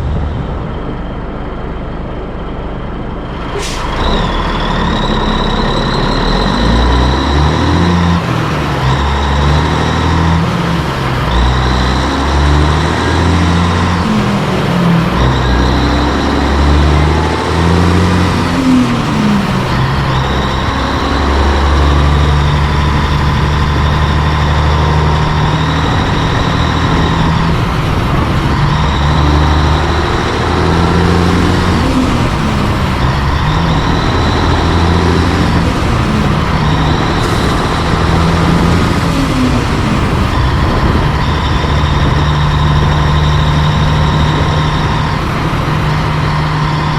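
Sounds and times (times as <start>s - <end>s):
diesel truck engine running: 0.0s - 46.9s
high whine: 0.0s - 46.9s.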